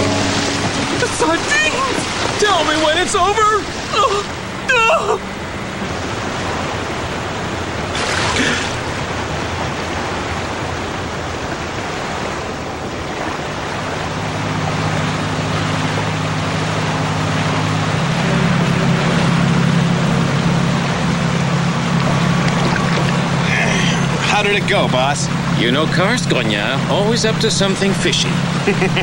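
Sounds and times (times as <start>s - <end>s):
low steady hum: 0.0s - 29.0s
sea waves washing: 0.0s - 29.0s
swimmer splash: 0.0s - 29.0s.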